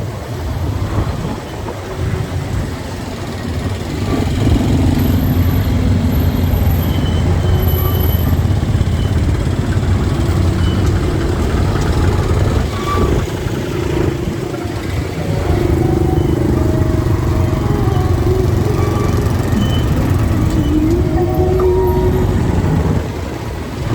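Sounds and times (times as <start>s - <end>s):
road noise: 0.0s - 23.9s
motorcycle engine: 2.6s - 23.9s.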